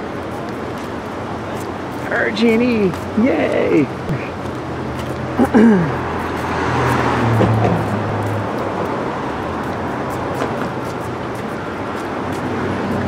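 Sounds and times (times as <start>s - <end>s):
city street traffic: 0.0s - 13.0s
vehicle engine low hum: 0.0s - 13.0s.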